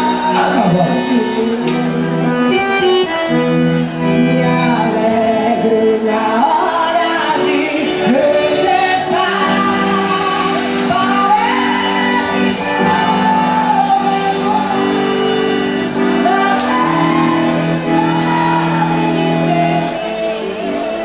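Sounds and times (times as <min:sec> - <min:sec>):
accordion chords: 0:00.0 - 0:21.0
voices singing: 0:04.0 - 0:21.0.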